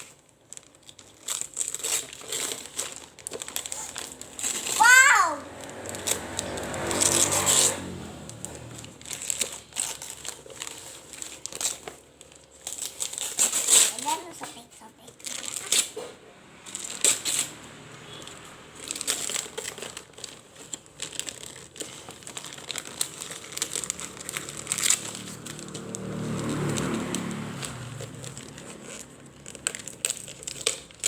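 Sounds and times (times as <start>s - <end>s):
wrapping paper tearing and crumpling: 0.0s - 31.0s.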